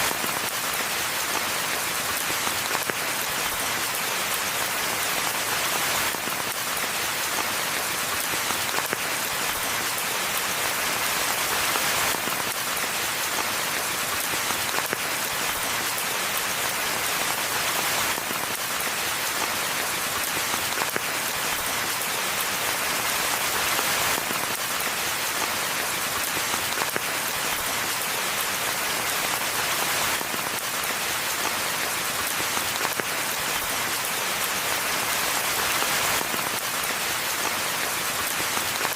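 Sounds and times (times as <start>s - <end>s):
rain on ground and leaves: 0.0s - 38.9s.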